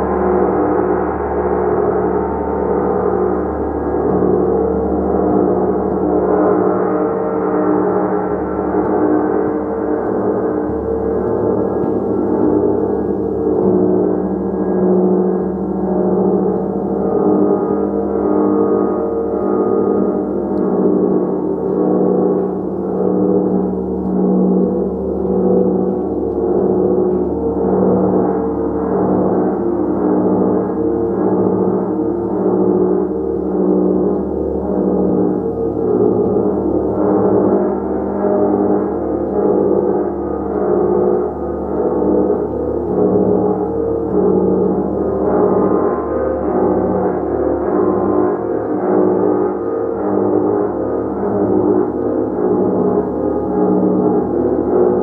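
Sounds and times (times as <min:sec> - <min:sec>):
large gong played softly: 0:00.0 - 0:55.0.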